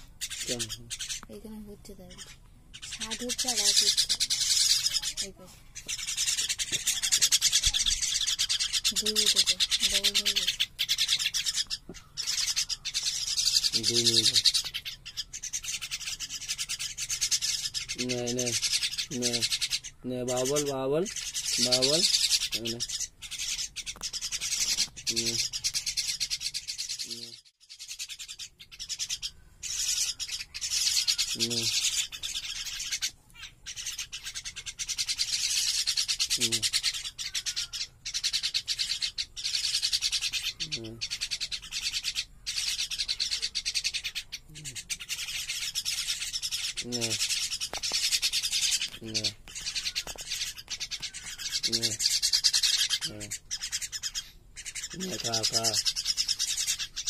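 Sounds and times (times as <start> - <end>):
young birds hissing begging calls: 0.0 - 57.0.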